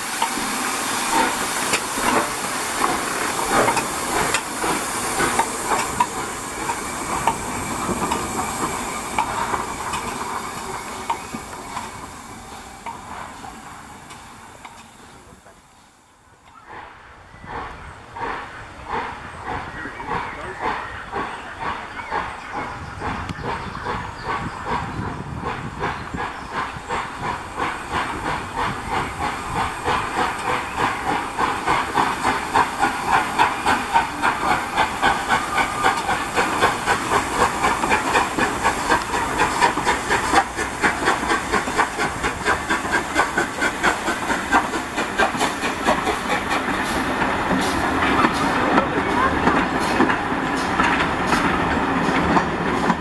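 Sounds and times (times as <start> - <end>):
train wheels clattering on rail joints: 0.0 - 15.6, 16.4 - 53.0
hiss of steam: 0.0 - 53.0
steam locomotive exhaust beating: 0.0 - 53.0.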